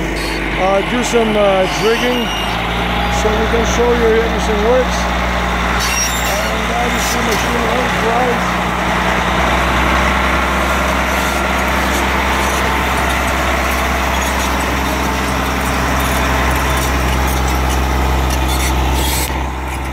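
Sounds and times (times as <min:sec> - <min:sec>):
heavy machine engine humming: 0:00.0 - 0:19.9.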